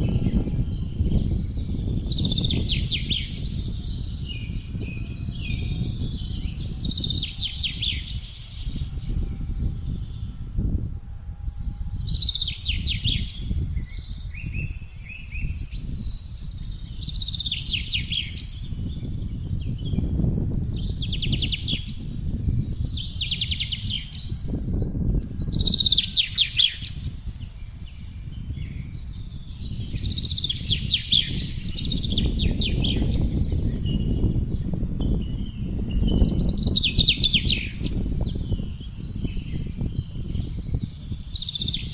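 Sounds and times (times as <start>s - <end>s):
songbirds singing trills: 0.0s - 41.9s
wind rumble: 0.0s - 41.9s.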